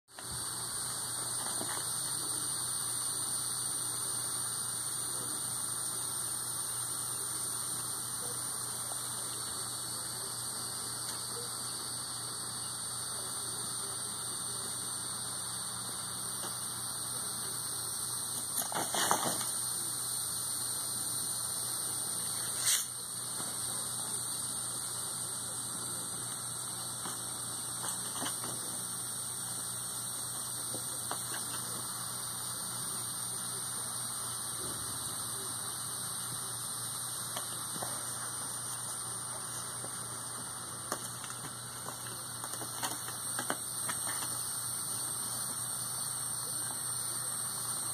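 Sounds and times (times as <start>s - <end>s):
electrical hum: 0.1s - 47.9s
high hiss: 0.1s - 47.9s.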